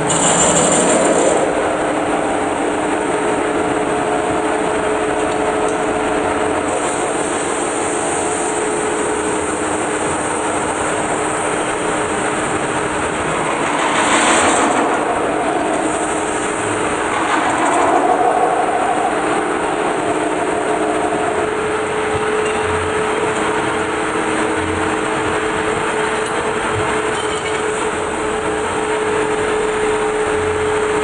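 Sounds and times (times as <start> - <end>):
lathe mechanical hum: 0.0 - 31.0.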